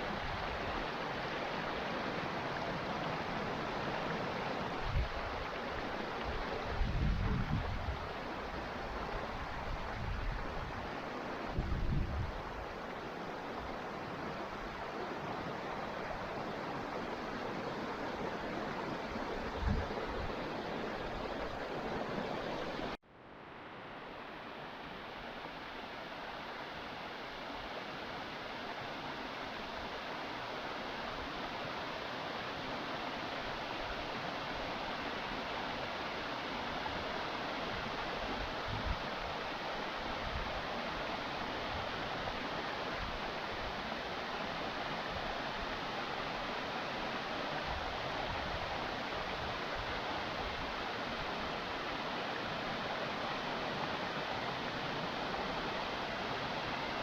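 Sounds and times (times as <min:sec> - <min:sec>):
waterfall rushing: 0:00.0 - 0:23.0, 0:23.8 - 0:57.0.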